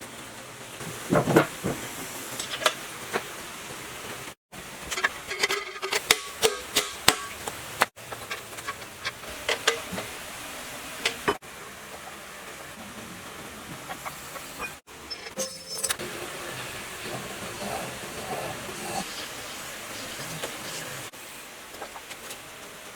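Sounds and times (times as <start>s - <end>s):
steady hiss: 0.0s - 22.9s.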